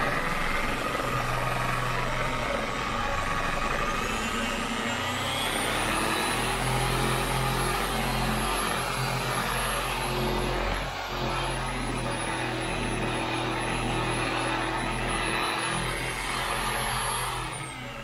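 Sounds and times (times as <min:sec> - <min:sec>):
orbital polisher motor whine: 0:00.0 - 0:18.0.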